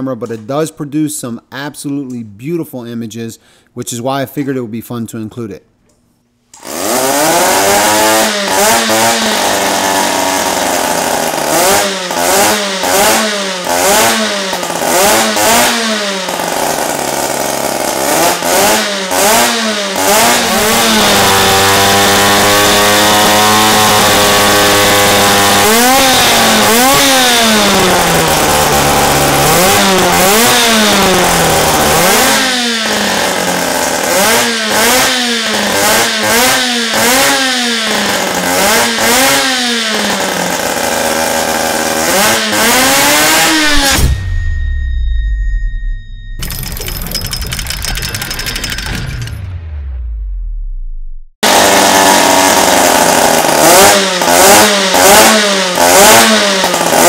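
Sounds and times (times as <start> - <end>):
rotary engine revving: 6.6 - 44.7, 46.4 - 57.0.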